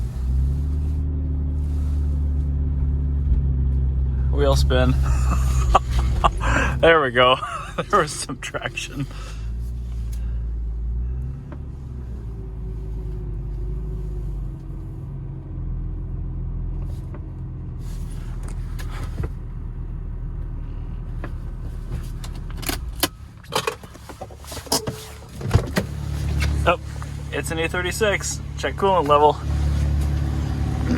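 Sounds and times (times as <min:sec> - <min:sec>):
car engine running: 0:00.0 - 0:30.9.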